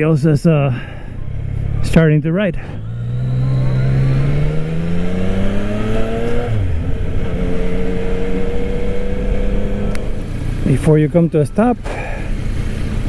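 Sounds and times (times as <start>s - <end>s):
motorcycle engine accelerating: 0.8s - 13.0s.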